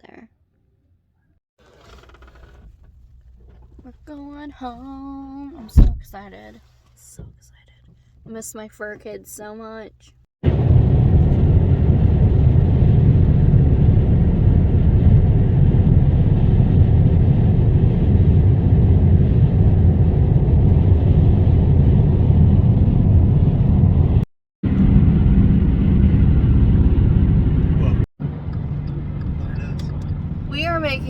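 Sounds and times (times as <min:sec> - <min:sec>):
car road and engine noise: 0:01.6 - 0:06.2, 0:10.4 - 0:31.0.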